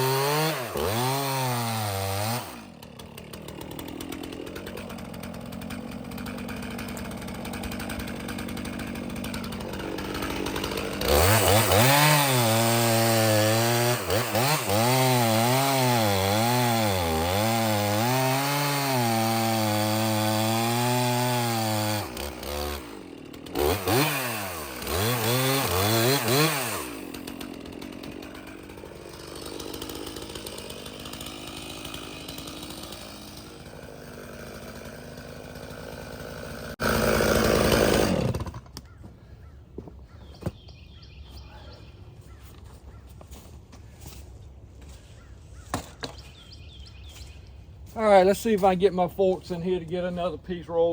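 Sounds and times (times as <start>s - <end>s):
chainsaw cutting wood: 0.0s - 39.0s, 44.8s - 47.3s
chainsaw idling and revving: 0.0s - 39.0s, 47.9s - 50.9s.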